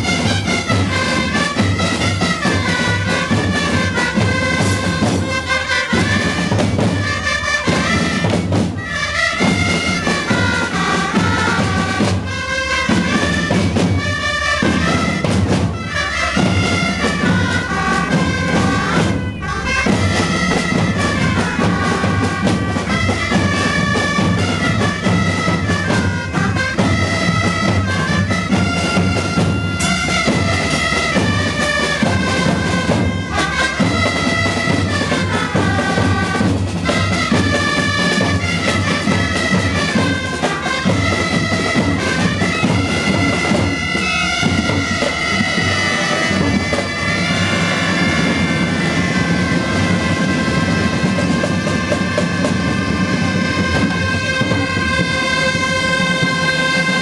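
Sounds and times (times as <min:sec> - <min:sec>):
drum beating: 0:00.0 - 0:57.0.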